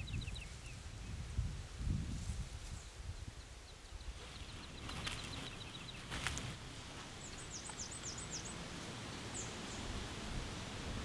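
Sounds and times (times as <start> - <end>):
small birds chirping: 0.0 - 1.3, 2.6 - 10.2.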